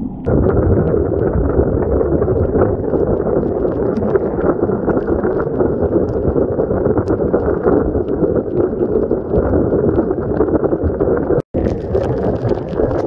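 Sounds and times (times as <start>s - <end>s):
wind buffeting microphone: 0.0s - 13.0s
heavy rain on standing water: 0.3s - 13.0s.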